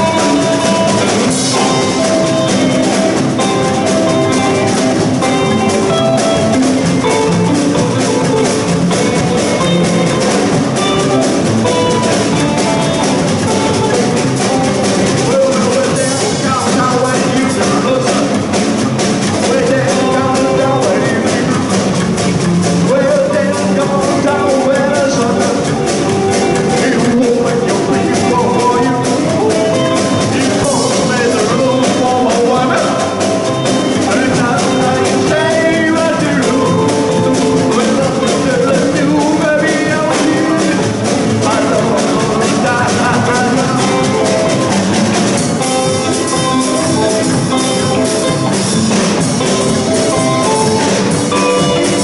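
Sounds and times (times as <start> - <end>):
drum kit: 0.0 - 52.0
electric guitar: 0.0 - 52.0
upright double bass: 0.0 - 52.0.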